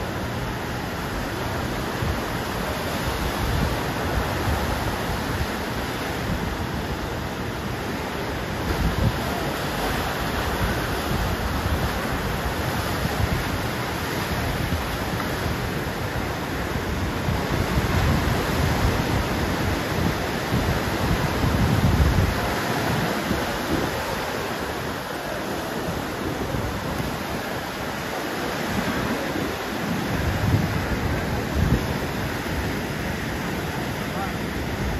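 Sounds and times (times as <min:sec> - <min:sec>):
ocean surf washing: 0:00.0 - 0:34.9
wind buffeting microphone: 0:00.0 - 0:34.9.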